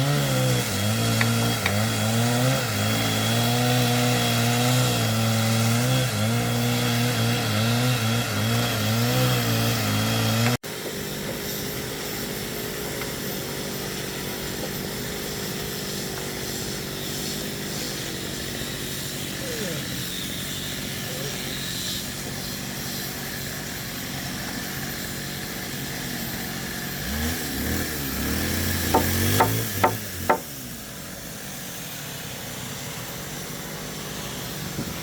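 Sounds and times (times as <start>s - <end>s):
petrol power tool running: 0.0s - 35.0s.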